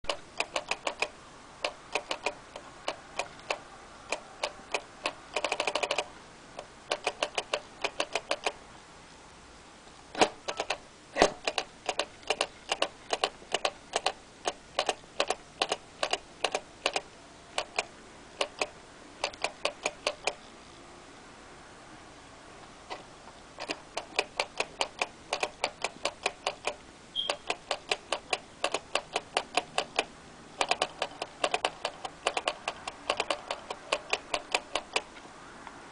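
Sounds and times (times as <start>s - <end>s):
toy figure ticking clicks: 0.1s - 8.6s, 10.5s - 10.8s, 11.4s - 20.4s, 23.6s - 35.1s.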